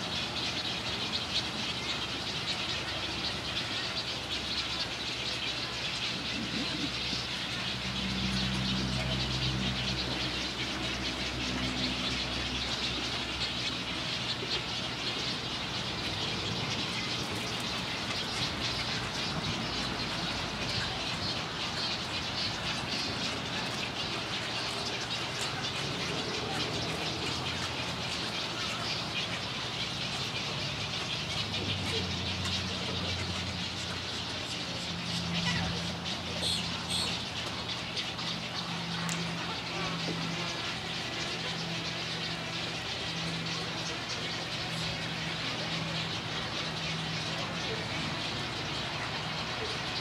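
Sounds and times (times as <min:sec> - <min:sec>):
nesting birds calling: 0:00.0 - 0:50.0.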